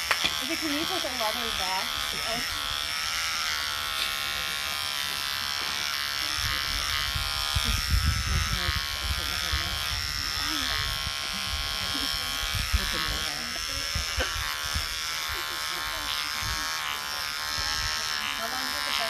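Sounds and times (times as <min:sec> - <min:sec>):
electric beard trimmer buzzing: 0:00.0 - 0:19.0.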